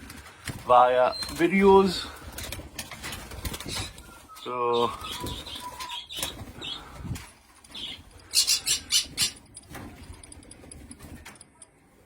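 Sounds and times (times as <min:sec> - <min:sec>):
birds in an aviary: 0:00.0 - 0:12.0
faint rustles and clicks: 0:00.0 - 0:12.0.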